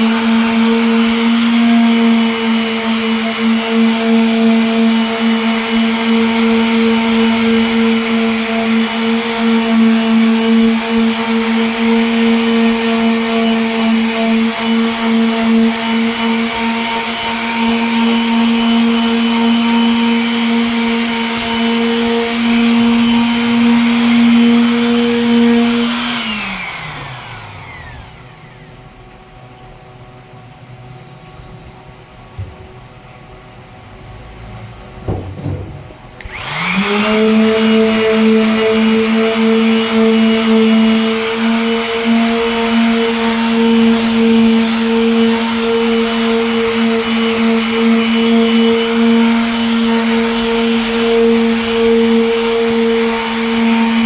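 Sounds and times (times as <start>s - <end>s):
electric sander whining: 0.0s - 29.0s, 35.1s - 54.0s.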